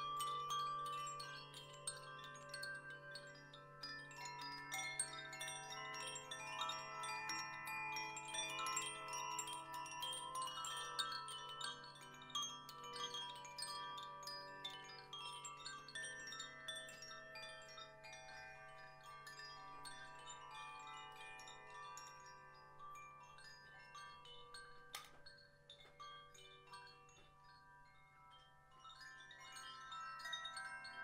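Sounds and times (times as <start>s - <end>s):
wind chimes ringing: 0.0s - 31.0s.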